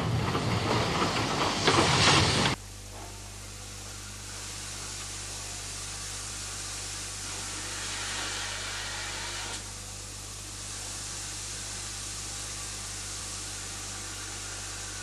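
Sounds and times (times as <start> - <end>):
steady hiss: 1.2 - 15.0.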